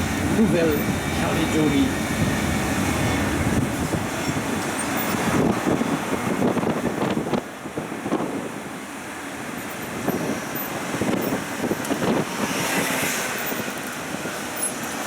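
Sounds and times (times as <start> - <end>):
train engine and road rumble: 0.0 - 15.0.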